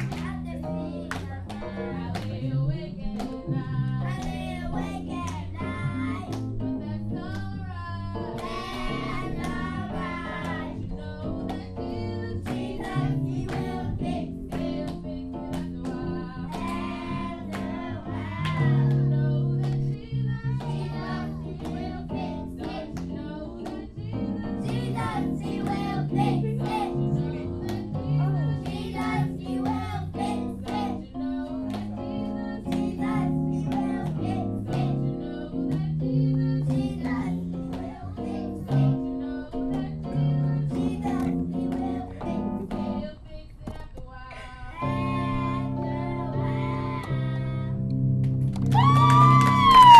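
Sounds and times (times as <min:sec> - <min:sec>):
young voices singing gospel: 0:00.0 - 0:47.8, 0:48.8 - 0:49.9.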